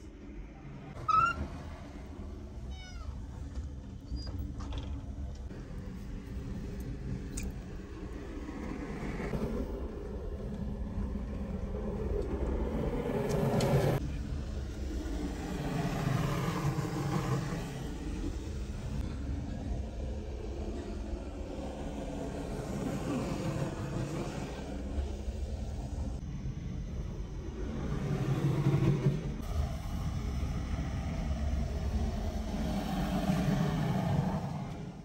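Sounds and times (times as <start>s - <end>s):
fire rushing rumble: 5.5s - 35.0s.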